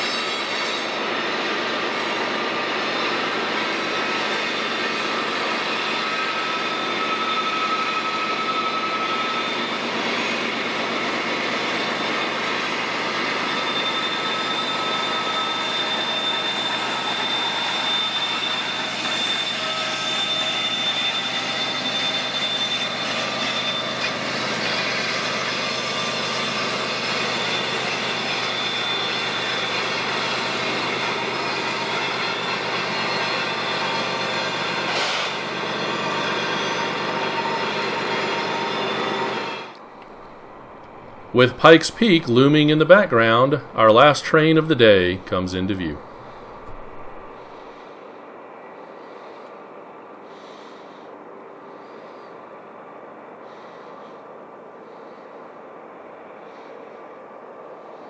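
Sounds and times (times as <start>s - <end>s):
high wheel squeals: 0.0s - 55.5s
train wheels rumbling on rail: 0.0s - 58.0s.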